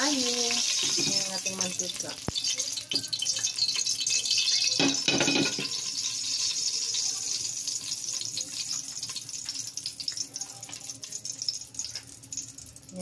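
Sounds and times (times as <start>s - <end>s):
oil sizzling in a metal pot: 0.0s - 13.0s.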